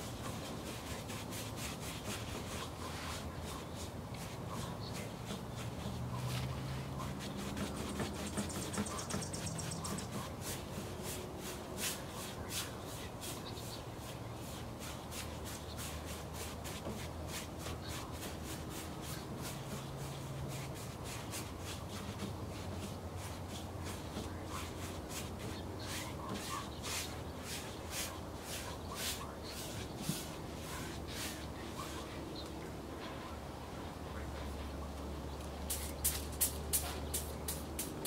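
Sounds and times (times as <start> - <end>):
bristle brush scrubbing canvas: 0.0 - 32.2.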